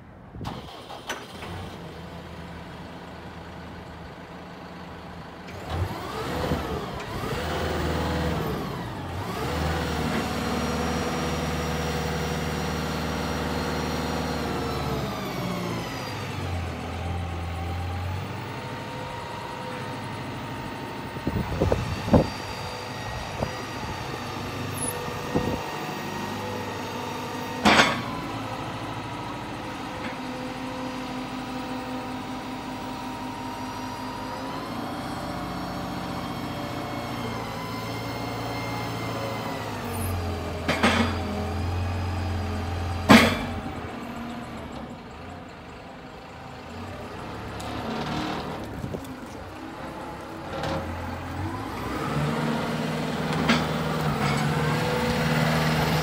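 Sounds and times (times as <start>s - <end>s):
diesel engine idling and revving: 0.1s - 56.0s.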